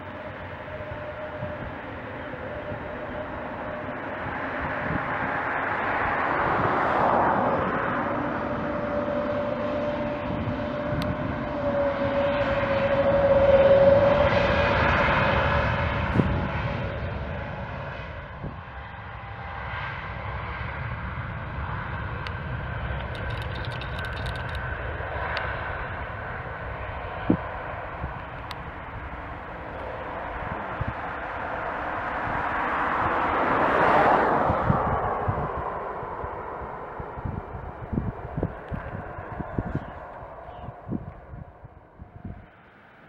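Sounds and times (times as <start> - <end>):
jet engines whining: 0.0 - 43.0.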